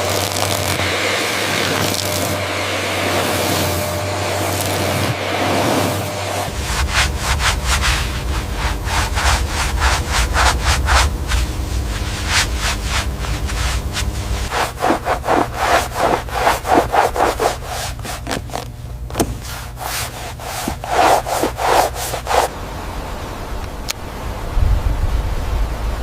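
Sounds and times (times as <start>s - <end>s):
hand sanding strokes: 0.0s - 22.5s.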